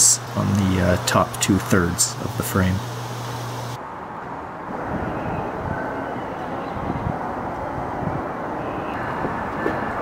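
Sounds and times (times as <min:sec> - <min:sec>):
city background rumble: 0:00.0 - 0:10.0.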